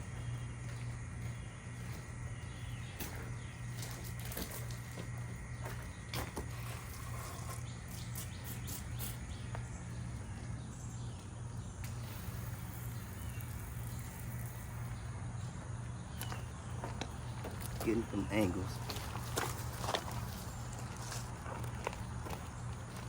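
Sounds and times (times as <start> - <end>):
birds chirping: 0.0 - 23.0
insects chirping: 0.0 - 23.0
low machine hum: 0.0 - 23.0.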